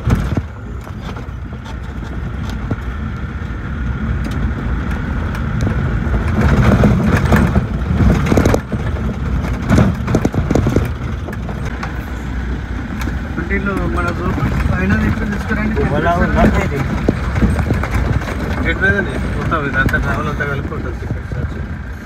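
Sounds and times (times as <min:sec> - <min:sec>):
vehicle engine running low: 0:00.0 - 0:22.0
vehicle jolting over bumps: 0:00.0 - 0:22.0.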